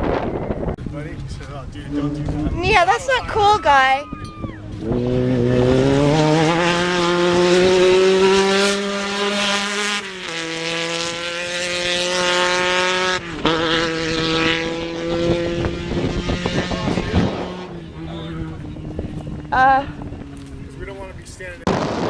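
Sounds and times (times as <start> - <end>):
race vehicle engine at high revs: 0.0 - 22.0.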